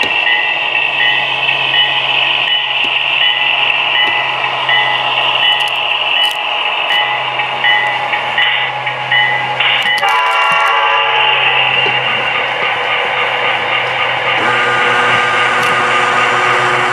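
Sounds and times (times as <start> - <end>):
locomotive bell ringing: 0.1 - 16.9.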